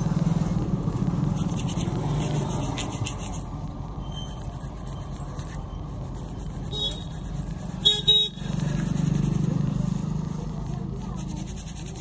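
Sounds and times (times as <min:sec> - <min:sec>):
road traffic engine rumble: 0:00.0 - 0:12.0.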